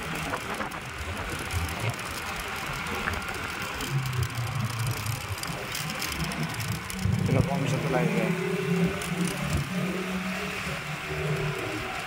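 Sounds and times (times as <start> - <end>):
motorcycle engine: 0.0 - 12.0
road noise: 0.0 - 12.0
wind: 0.0 - 12.0.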